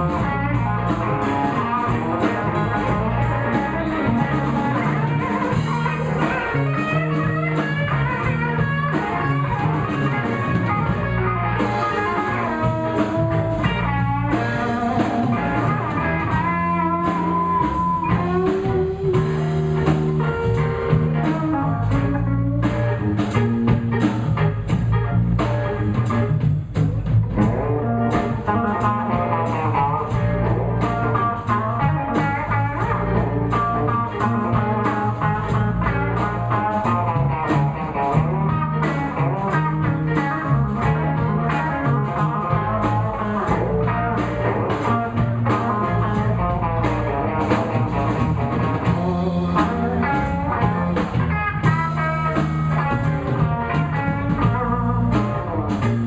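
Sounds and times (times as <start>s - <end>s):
bass guitar: 0.0s - 56.0s
drum kit keeping time: 0.0s - 56.0s
lead guitar with bent notes: 0.0s - 56.0s.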